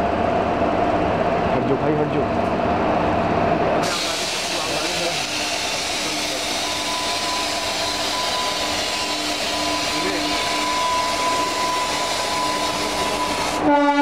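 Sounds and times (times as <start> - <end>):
electric train approaching: 2.5 - 14.0.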